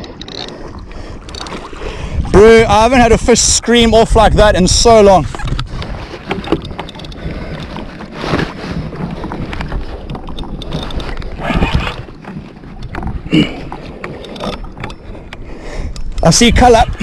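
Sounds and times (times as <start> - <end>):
water and wind rumble: 0.0 - 17.0.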